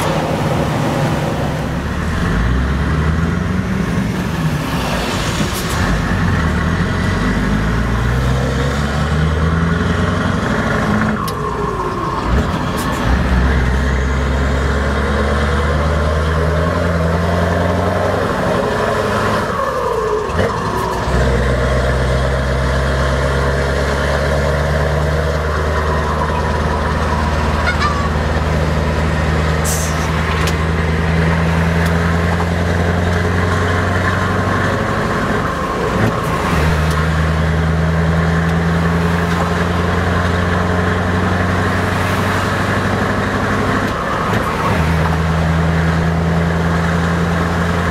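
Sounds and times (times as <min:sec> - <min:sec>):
diesel truck engine: 0:00.0 - 0:47.9.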